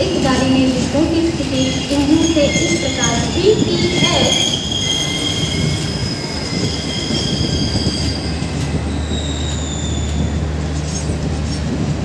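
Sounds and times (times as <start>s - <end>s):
wheels squealing: 0.0s - 11.7s
train wheels rumbling on track: 0.0s - 12.0s.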